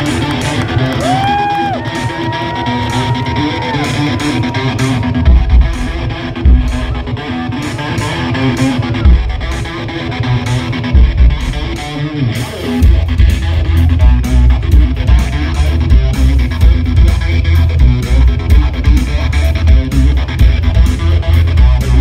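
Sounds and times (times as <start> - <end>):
drum and bass beat: 0.0 - 22.0
loud electric guitar: 0.0 - 22.0.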